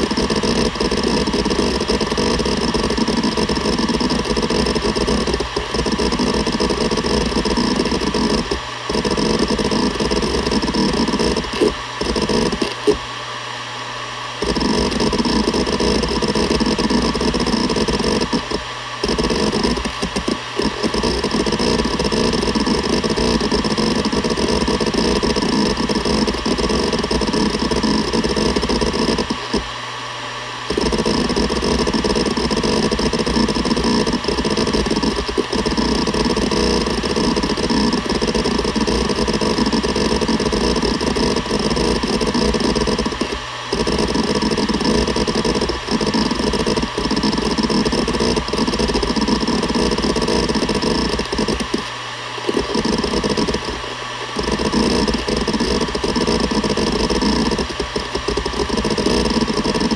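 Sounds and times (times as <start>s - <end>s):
hard drive heads chattering: 0.0s - 13.1s, 14.4s - 29.8s, 30.7s - 59.9s
hard drive spindle hum: 0.0s - 59.9s.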